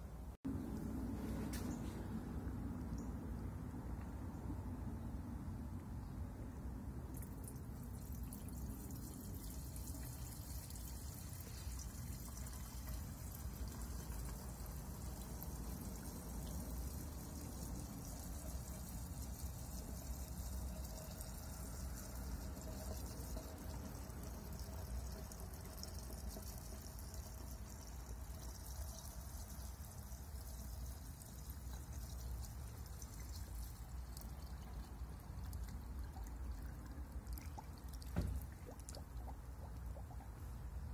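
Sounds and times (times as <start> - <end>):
fuel pouring into a plastic tank: 7.0 - 40.5.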